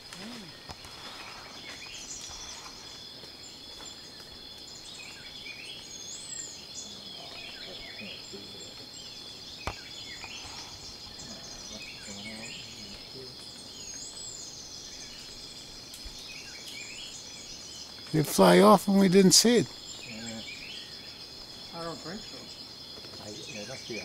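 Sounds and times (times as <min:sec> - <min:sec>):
high-pitched insect drone: 0:00.0 - 0:24.0
bird chirps: 0:00.2 - 0:24.0.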